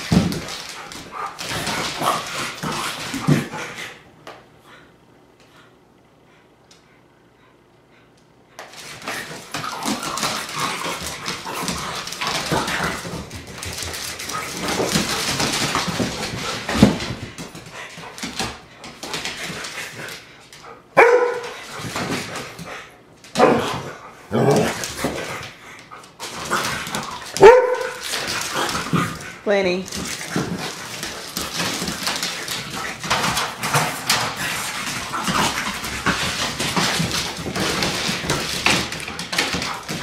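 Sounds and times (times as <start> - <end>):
dogs scuffling on hardwood floor: 0.0 - 5.7, 6.7 - 40.0.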